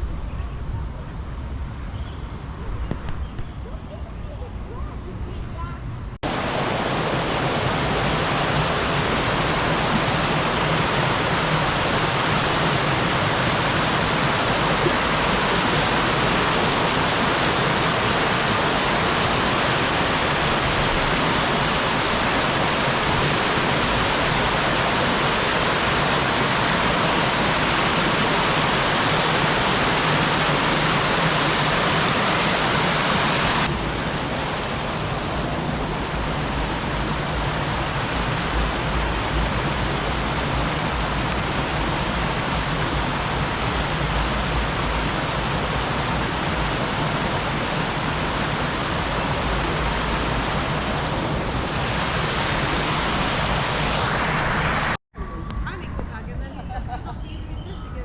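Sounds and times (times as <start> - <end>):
running water rushing: 6.2 - 55.0.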